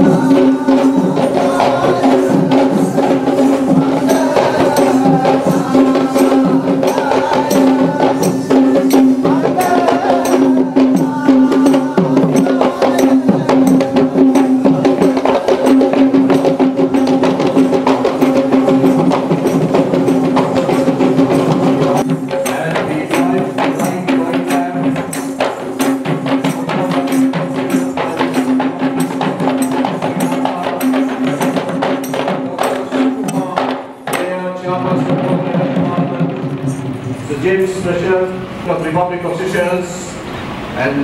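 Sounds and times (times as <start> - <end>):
drums beaten in fast rhythm: 0.0 - 40.2.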